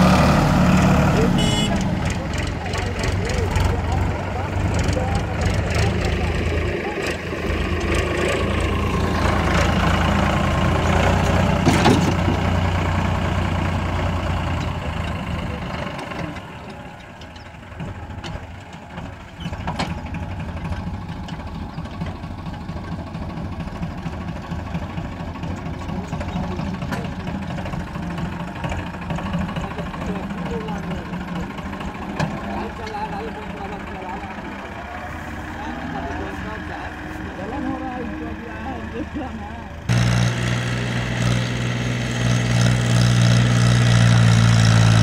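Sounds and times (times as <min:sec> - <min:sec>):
diesel tractor engine running: 0:00.0 - 0:45.0.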